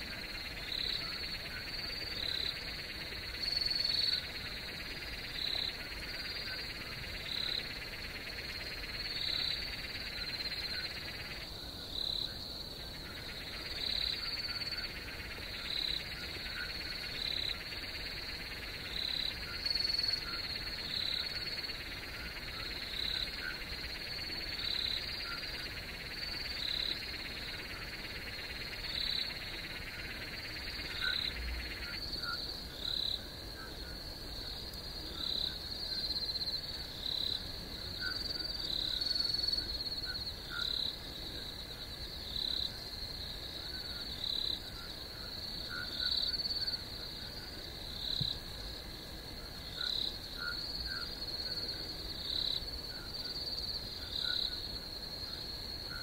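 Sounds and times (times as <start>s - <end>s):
background hiss: 0.0s - 56.0s
crickets chirping: 0.0s - 56.0s
frogs calling: 0.0s - 56.0s
high insect trill: 0.0s - 56.0s.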